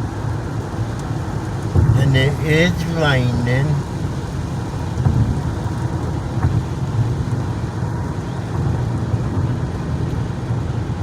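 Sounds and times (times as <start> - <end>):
car engine and tyre rumble: 0.0 - 11.0
tyres hissing on wet road: 0.0 - 11.0.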